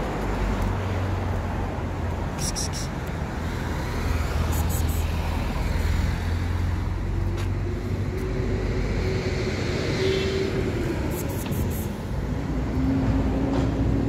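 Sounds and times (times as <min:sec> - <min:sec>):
engine hum: 0:00.0 - 0:14.0
road traffic rumble: 0:00.0 - 0:14.0.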